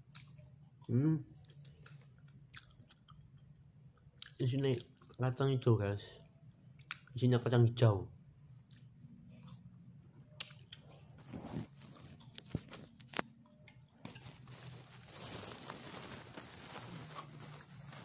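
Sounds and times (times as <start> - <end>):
quiet chewing: 0.0 - 5.2, 8.5 - 18.0.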